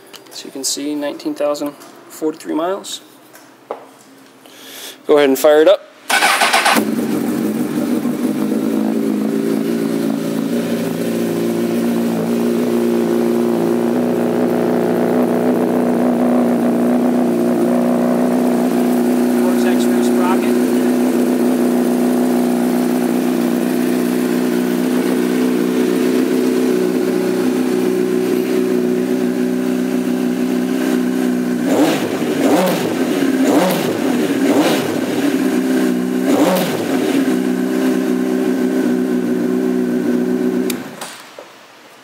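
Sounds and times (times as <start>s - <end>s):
motorcycle engine idling and revving: 6.1s - 41.0s.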